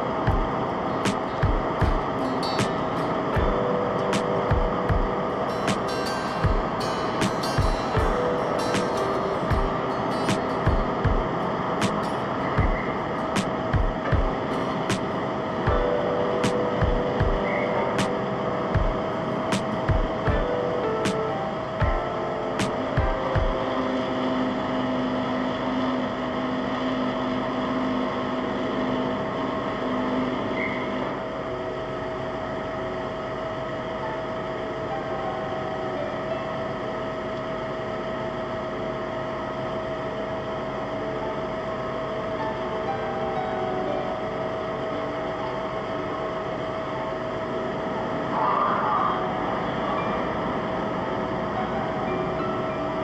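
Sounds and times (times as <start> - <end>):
constant hum tone: 0.0 - 53.0
ferry engines droning: 0.0 - 53.0
low wavering hum: 0.0 - 53.0.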